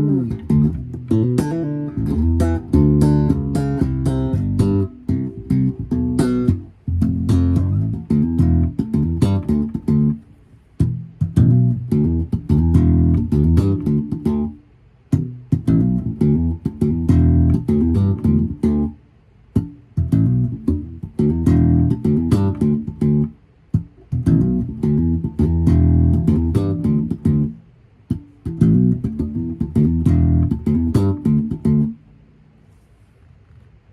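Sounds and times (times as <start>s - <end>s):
slap bass licks: 0.0s - 32.8s.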